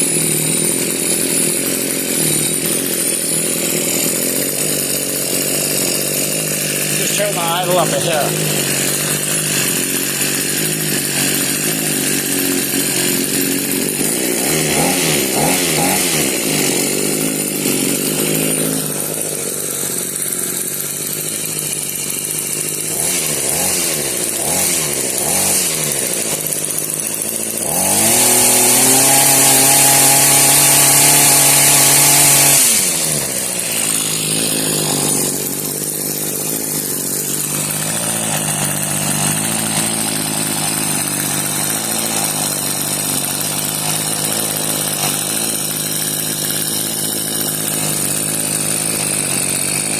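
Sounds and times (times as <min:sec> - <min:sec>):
hedge trimmer engine idling and revving: 0:00.0 - 0:49.9.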